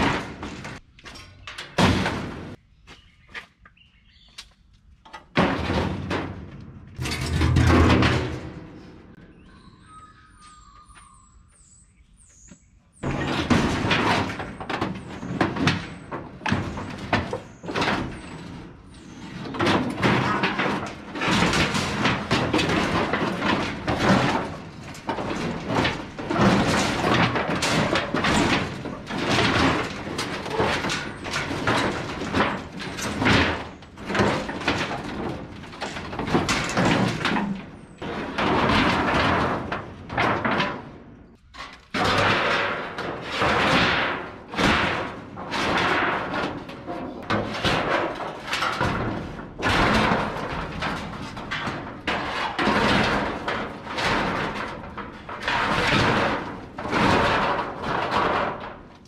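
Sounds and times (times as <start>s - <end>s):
metal sheets clattering: 0.0s - 2.6s, 5.3s - 9.2s, 13.0s - 59.0s
sheet metal scraping: 5.4s - 9.2s, 13.0s - 58.9s.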